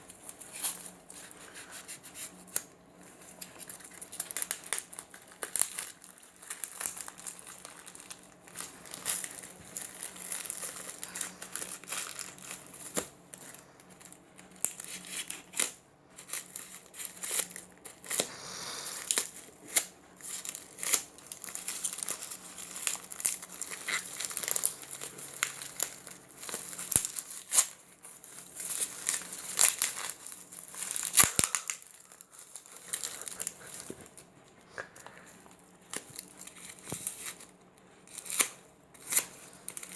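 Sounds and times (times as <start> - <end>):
packaging crinkling and tearing: 0.1 - 34.3, 35.0 - 39.9.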